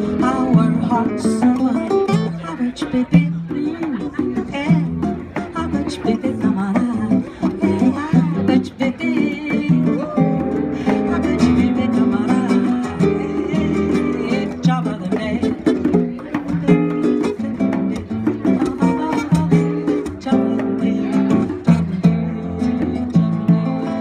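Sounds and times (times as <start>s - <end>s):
acoustic guitar plucking: 0.0s - 24.0s
conga drums: 0.0s - 24.0s.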